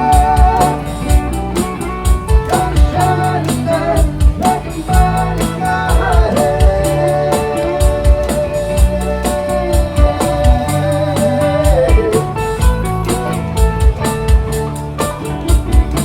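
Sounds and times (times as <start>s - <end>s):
bass line: 0.0s - 16.0s
hi-hat and kick drum: 0.0s - 16.0s
lead melody with bent notes: 0.0s - 16.0s
live rock band playing: 0.0s - 16.0s.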